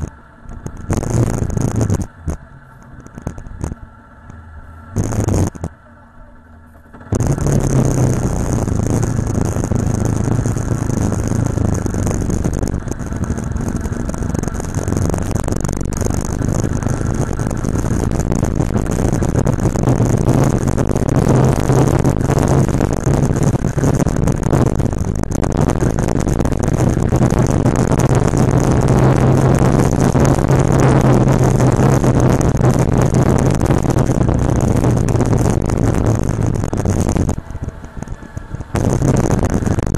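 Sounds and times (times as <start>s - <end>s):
wind noise: 0.0s - 5.8s, 6.9s - 39.9s
motorcycle engine cruising: 0.0s - 39.9s.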